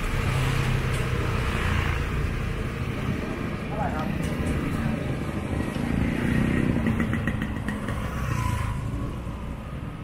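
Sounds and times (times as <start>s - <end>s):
street noise: 0.0s - 10.0s.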